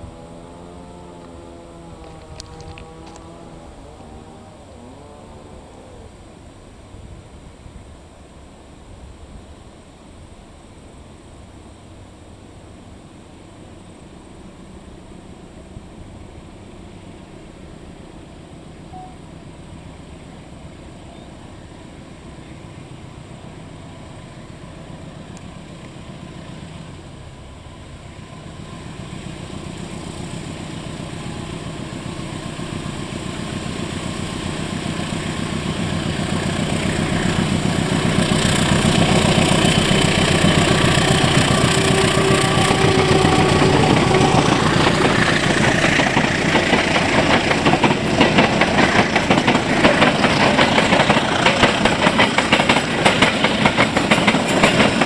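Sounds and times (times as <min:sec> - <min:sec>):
diesel train engine: 0:00.0 - 0:55.0
rush of passing train: 0:00.0 - 0:55.0.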